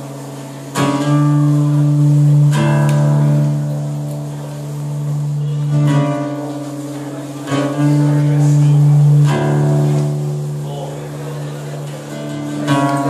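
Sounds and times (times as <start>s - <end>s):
guitar chords strummed: 0.0s - 13.0s.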